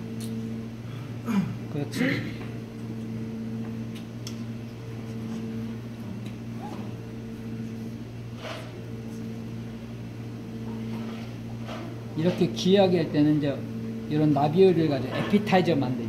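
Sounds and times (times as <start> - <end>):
kitchen machine electrical hum: 0.0 - 16.0.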